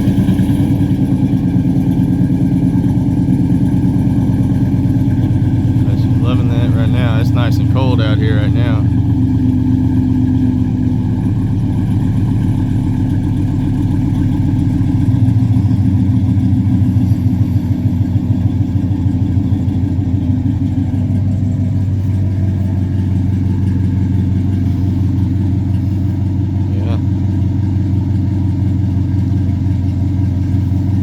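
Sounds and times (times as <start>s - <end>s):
car engine idling with deep rumble: 0.0s - 31.0s.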